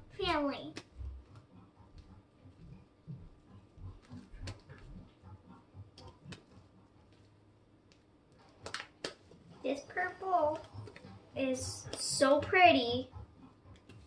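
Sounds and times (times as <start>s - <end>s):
slime squishing: 0.0s - 14.0s.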